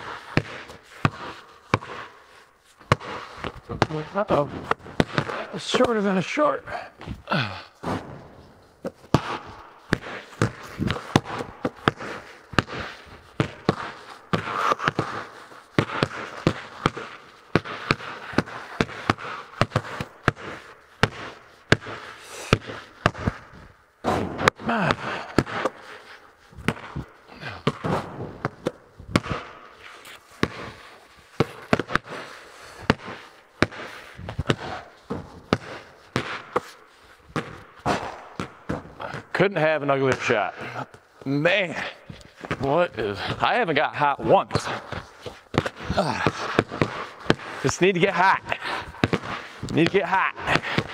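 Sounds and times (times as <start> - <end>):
balls banging off rim and walls: 0.0 - 2.2, 2.8 - 50.9
basketballs bouncing on concrete: 0.0 - 50.9.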